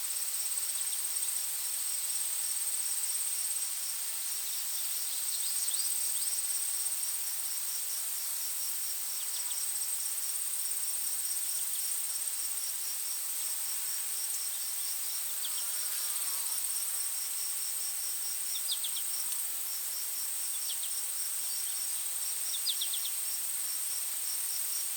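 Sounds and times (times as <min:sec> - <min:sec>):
cricket chirping: 0:00.1 - 0:24.9
insects high-pitched trill: 0:00.4 - 0:24.9.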